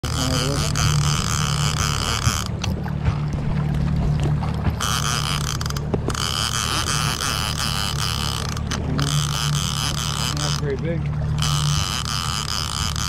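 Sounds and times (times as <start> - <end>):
boat motor humming: 0.0 - 13.0
fishing reel gears whirring: 0.0 - 13.0.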